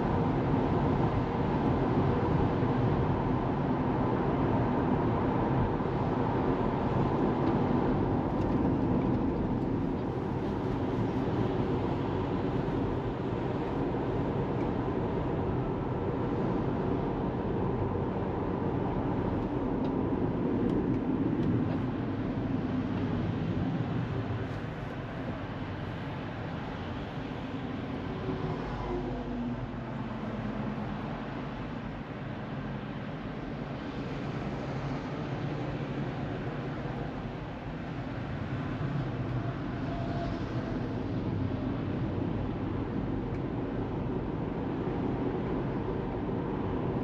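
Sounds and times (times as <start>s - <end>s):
car road and tyre noise: 0.0s - 47.0s.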